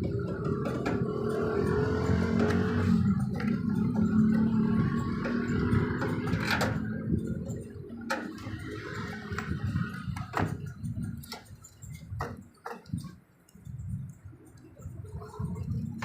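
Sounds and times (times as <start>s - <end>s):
handling noise with clicks and knocks: 0.0s - 16.0s.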